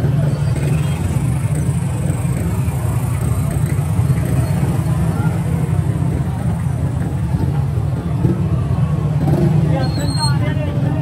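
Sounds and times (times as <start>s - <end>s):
faint voices: 0.0s - 11.0s
traffic rumble: 0.0s - 11.0s.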